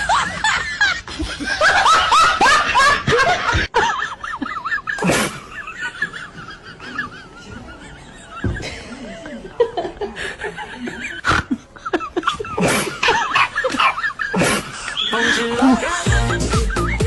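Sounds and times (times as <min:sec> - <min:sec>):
high-pitched snickering laughter: 0:00.0 - 0:17.0.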